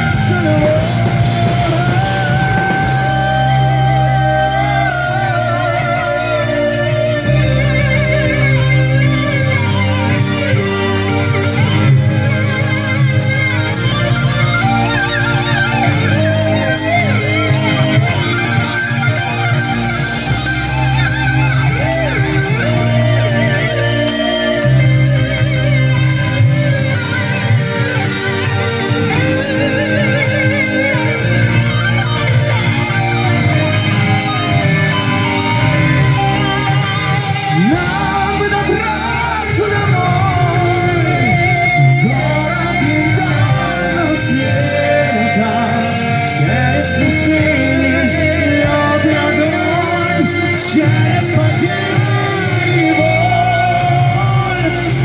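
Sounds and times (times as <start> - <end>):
live rock band: 0.0 - 55.0.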